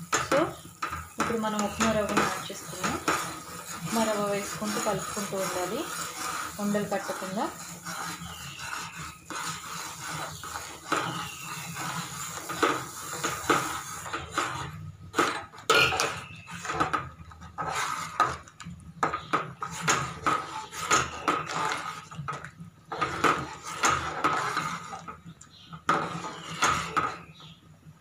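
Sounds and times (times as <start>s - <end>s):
metal ladle scraping pot: 0.0s - 27.6s.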